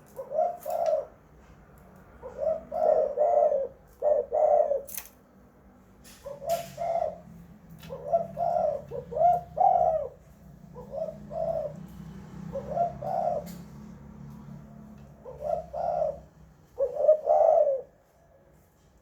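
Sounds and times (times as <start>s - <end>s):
dove cooing: 0.0s - 1.3s, 2.1s - 5.0s, 6.1s - 18.1s.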